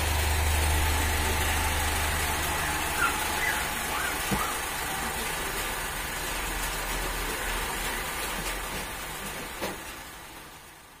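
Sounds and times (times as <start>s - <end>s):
stand fan whooshing with hum: 0.0s - 11.0s.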